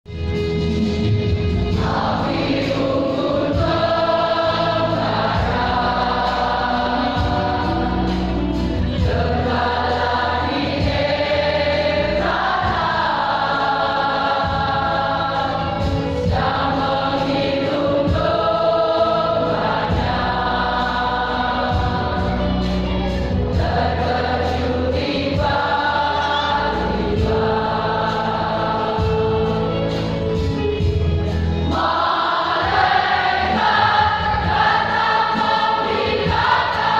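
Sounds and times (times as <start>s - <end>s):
low accompaniment: 0.1s - 36.9s
church choir singing: 0.2s - 36.9s.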